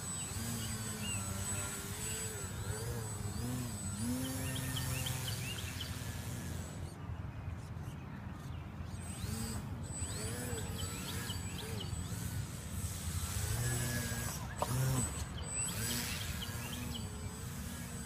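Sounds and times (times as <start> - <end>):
model airplane motor and propeller: 0.0 - 18.0.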